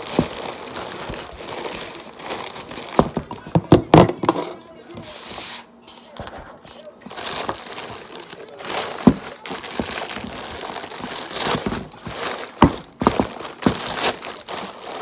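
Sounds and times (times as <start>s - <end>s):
plastic packaging crinkling: 0.0s - 4.2s, 5.0s - 15.0s.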